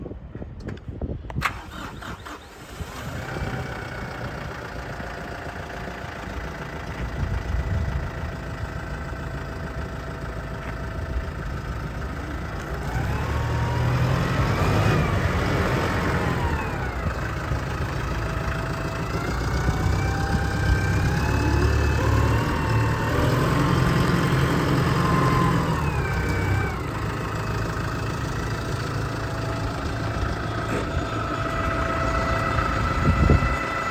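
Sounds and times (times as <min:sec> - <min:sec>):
tractor diesel engine revving: 0:01.4 - 0:33.9.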